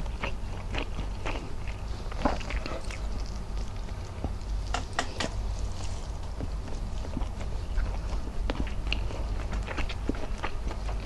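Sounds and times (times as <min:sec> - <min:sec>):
steady low hum: 0:00.0 - 0:11.0
woman chewing: 0:00.0 - 0:11.0.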